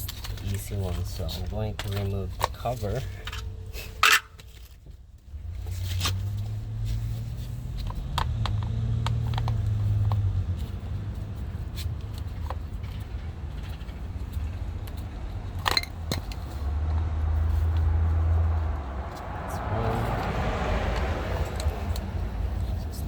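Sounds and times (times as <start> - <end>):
light clicks and scrapes: 0.0 - 19.3.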